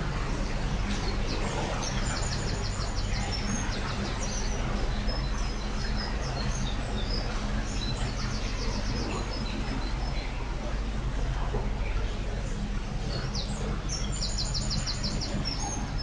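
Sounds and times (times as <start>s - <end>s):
boat motor humming: 0.0s - 16.0s
churning water: 0.0s - 16.0s
small birds chirping and trilling: 0.1s - 11.0s, 11.8s - 16.0s.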